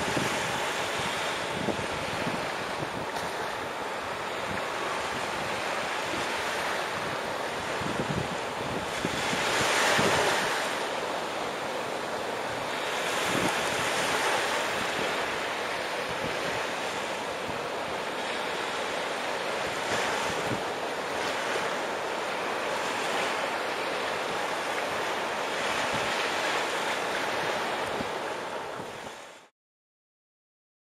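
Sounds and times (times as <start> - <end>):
wind rumbling on microphone: 0.0 - 29.4
waves breaking on beach: 0.0 - 29.5.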